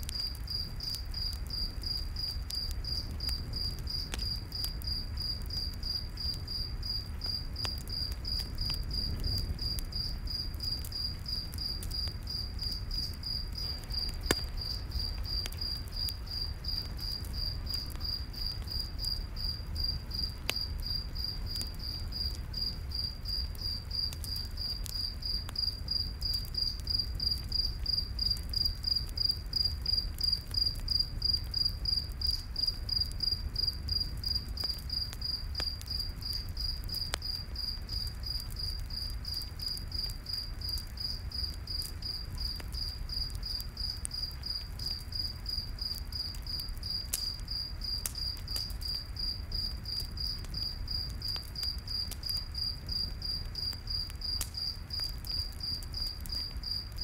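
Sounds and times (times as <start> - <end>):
campfire pops: 0.0 - 57.0
crickets chirping: 0.1 - 57.0.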